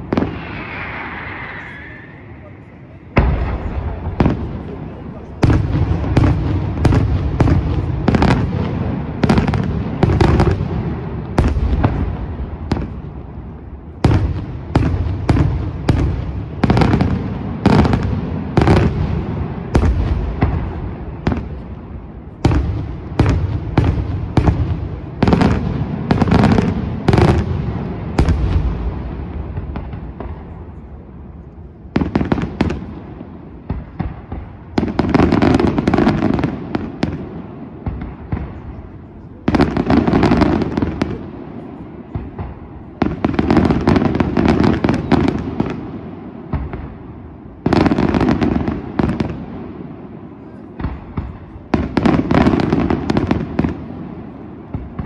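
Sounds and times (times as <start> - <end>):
fireworks bangs and pops: 0.0 - 1.8, 2.4 - 55.0.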